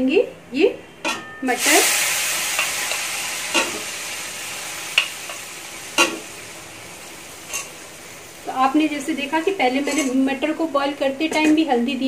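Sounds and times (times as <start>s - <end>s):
peas sizzling in hot oil: 1.4s - 12.0s.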